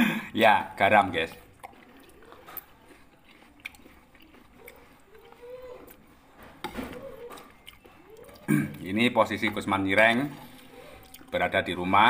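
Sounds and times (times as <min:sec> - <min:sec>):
people chewing fruit: 0:00.0 - 0:12.0.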